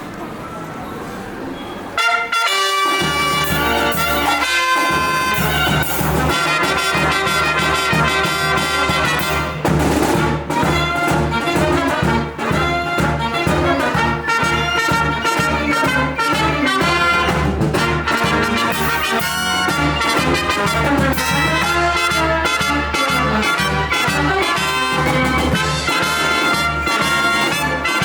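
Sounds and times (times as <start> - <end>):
brass band playing: 2.0 - 28.0
steady beat: 2.9 - 28.0.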